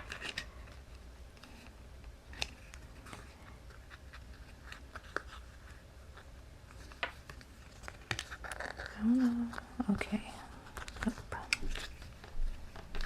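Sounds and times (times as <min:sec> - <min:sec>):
cardstock and tape rustling: 0:00.0 - 0:13.0.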